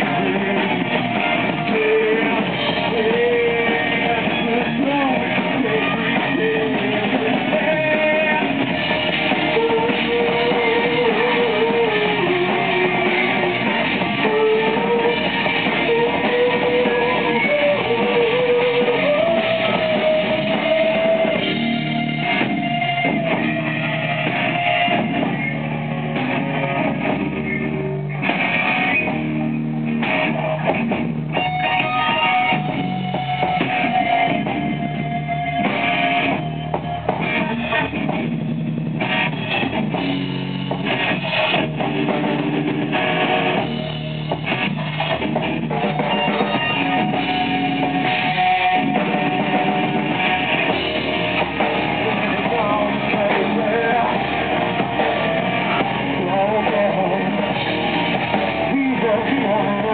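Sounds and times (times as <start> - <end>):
drum kit: 0.0 - 59.9
electric guitars: 0.0 - 59.9.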